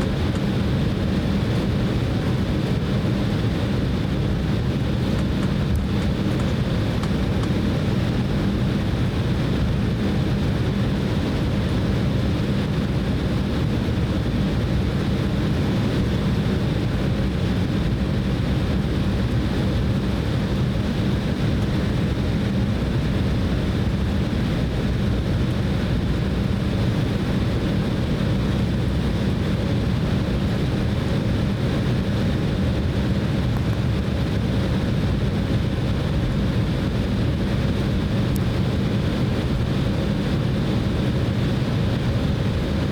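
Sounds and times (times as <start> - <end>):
faint high engine whine: 0.0 - 42.9
jet cabin engine drone: 0.0 - 42.9.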